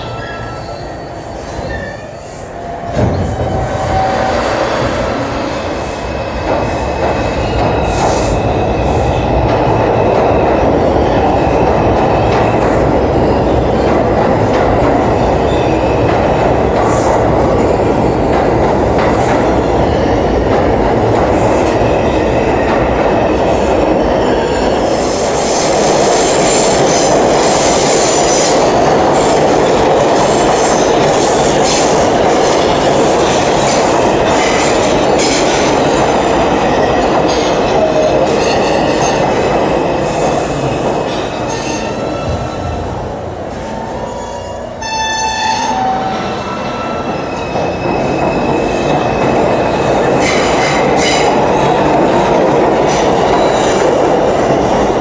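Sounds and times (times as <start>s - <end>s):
subway train rumble: 0.0s - 55.0s.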